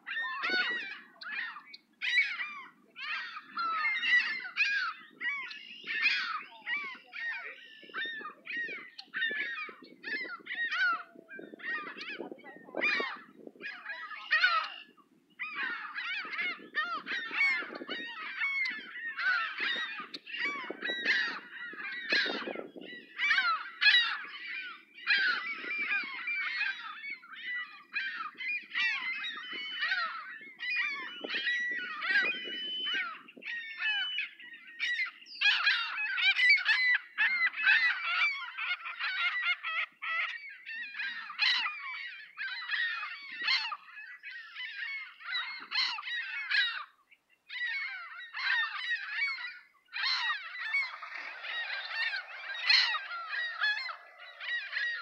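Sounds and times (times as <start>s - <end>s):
gulls calling: 0.0s - 55.0s.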